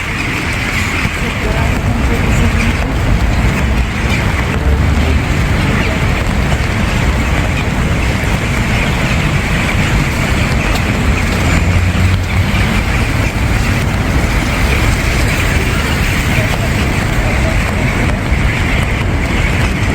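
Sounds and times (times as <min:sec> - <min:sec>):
continuous low rumble: 0:00.0 - 0:19.9.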